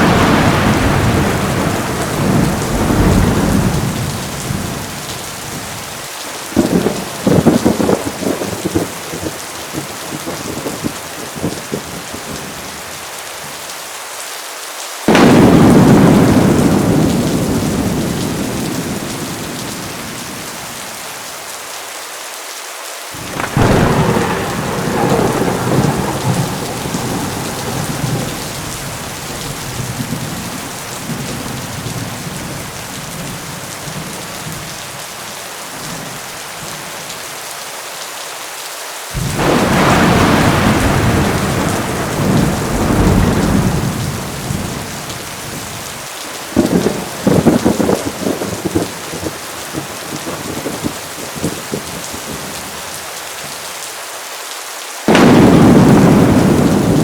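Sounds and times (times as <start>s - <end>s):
thunder rumbling: 0.0s - 12.8s, 15.1s - 21.0s, 23.2s - 35.0s, 39.2s - 52.9s, 55.1s - 57.0s
heavy rain falling: 0.0s - 57.0s.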